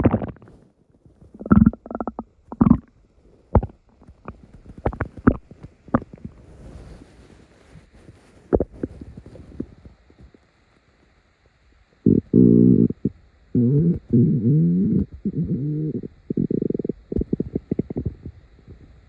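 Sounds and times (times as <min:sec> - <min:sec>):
stomach rumbling gurgles: 0:00.0 - 0:19.0.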